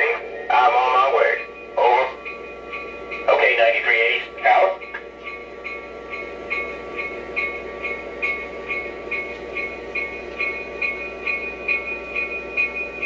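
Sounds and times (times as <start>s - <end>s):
model train humming: 0.0s - 13.0s.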